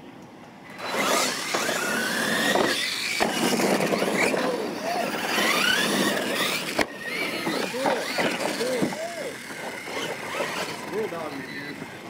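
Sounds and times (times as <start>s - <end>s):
electric motors whining: 0.7s - 12.0s
tyres rushing on loose dirt: 0.8s - 12.0s.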